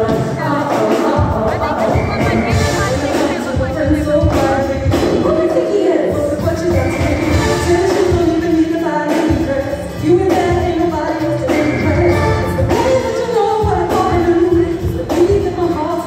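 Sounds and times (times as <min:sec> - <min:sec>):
amplified live music with singer: 0:00.0 - 0:16.0.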